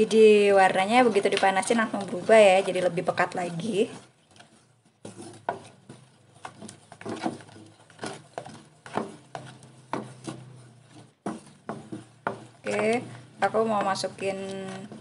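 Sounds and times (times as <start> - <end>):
wooden spatula scraping saucepan: 0.0 - 15.0.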